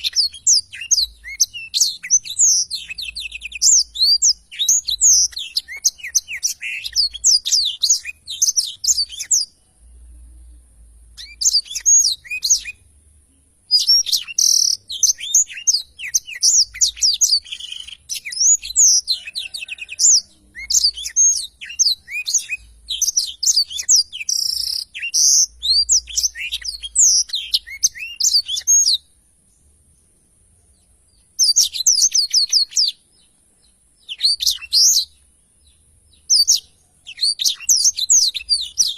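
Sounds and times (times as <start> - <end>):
canary singing: 0.0 - 29.6, 30.8 - 38.9.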